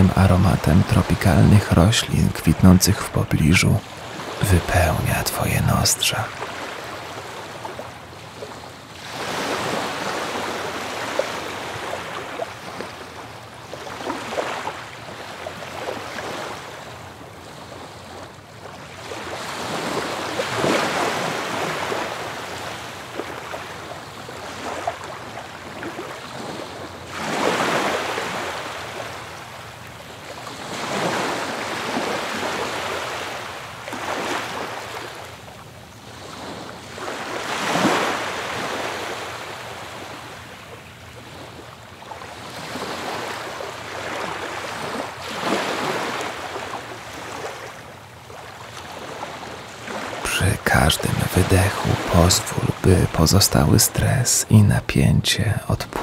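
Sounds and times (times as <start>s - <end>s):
waves breaking on a beach: 0.0s - 53.2s.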